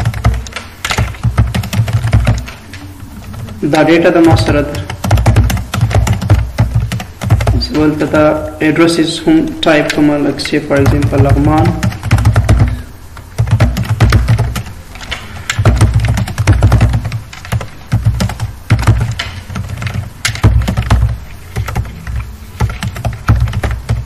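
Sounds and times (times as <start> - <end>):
computer keyboard typing: 0.0 - 24.0.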